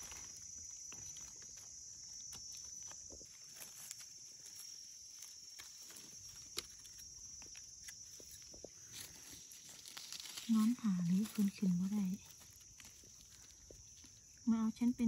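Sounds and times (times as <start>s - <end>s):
dry leaves rustling: 0.0s - 14.6s
high-pitched insect drone: 0.0s - 15.0s.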